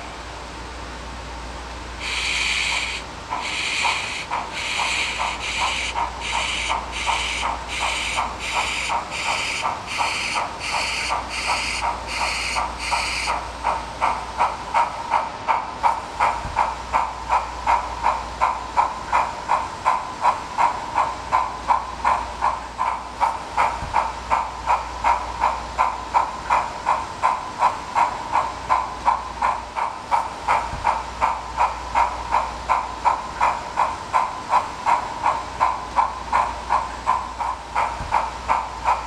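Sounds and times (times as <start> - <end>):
model steam locomotive chuffing: 1.6 - 39.0.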